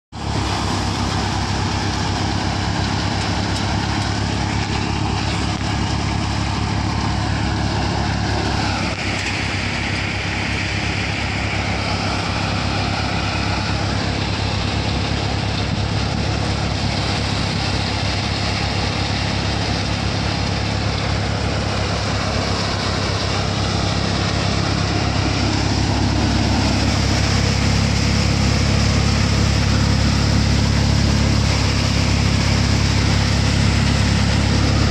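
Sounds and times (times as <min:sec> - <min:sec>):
threshing machine running: 0:00.1 - 0:34.9
tractor engine hum: 0:00.1 - 0:34.9.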